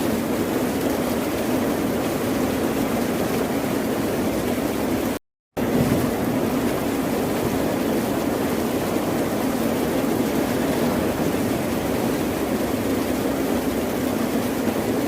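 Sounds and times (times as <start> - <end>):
ocean surf rushing: 0.0 - 15.0.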